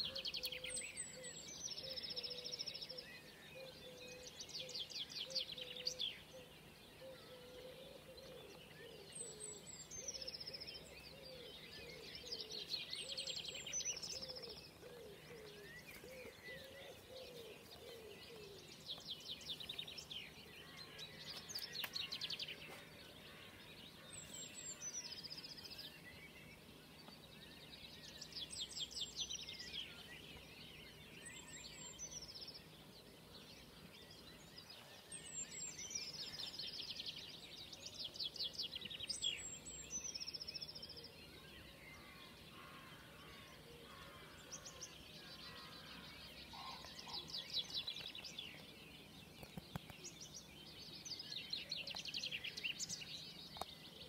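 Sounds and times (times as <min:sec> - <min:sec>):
songbirds singing trills: 0:00.0 - 0:54.0.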